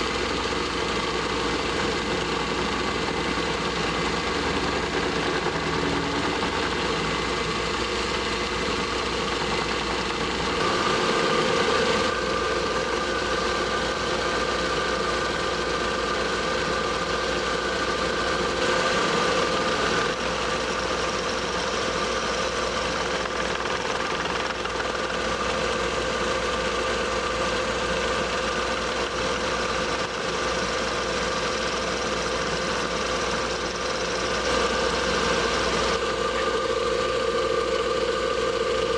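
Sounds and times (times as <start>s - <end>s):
metal lathe milling metal: 0.0s - 38.9s.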